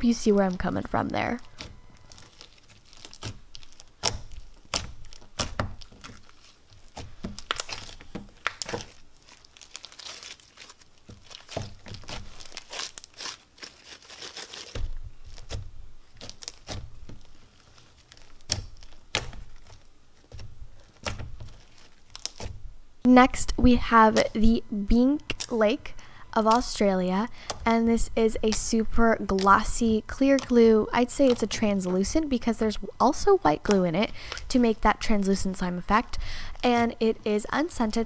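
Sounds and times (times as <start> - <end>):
slime crackling and popping: 0.1 - 22.6, 25.2 - 38.0.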